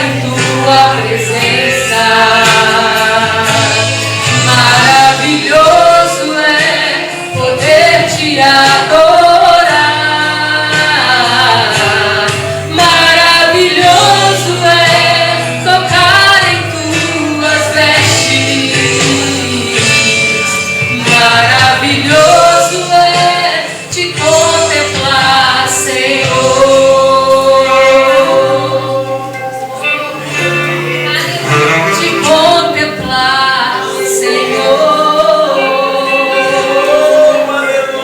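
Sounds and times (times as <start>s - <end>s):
gospel singing with accompaniment: 0.0s - 38.0s.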